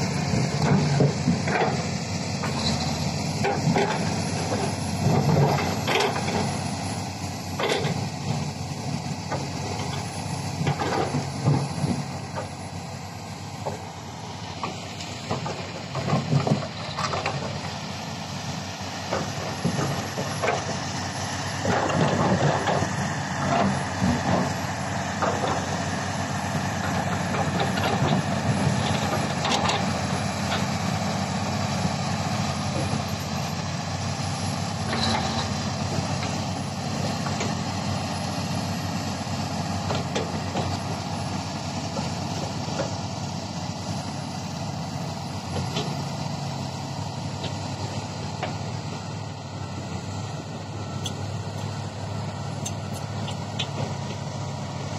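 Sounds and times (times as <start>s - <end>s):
diesel engine drone: 0.0s - 54.9s.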